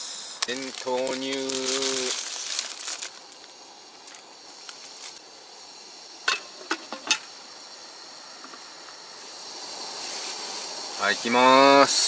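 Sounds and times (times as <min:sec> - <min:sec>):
stove burner hissing: 0:00.0 - 0:12.0.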